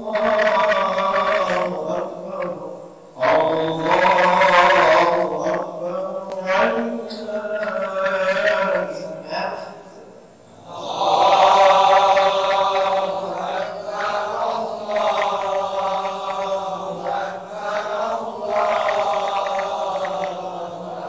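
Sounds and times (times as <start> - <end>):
man chanting recitation: 0.0 - 21.0.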